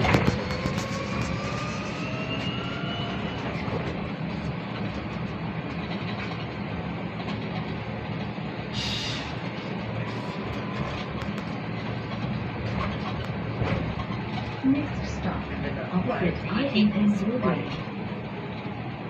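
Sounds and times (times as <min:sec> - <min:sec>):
bus road and body rumble: 0:00.0 - 0:19.0.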